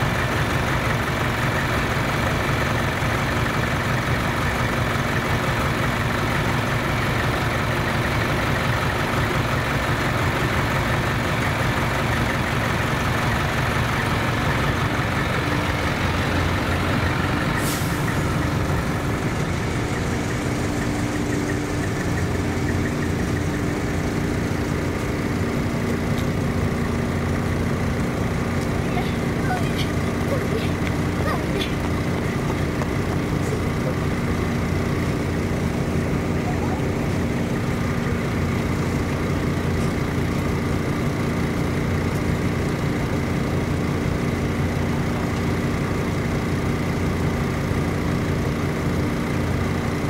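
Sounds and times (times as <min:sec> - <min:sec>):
diesel truck engines idling: 0:00.0 - 0:50.0.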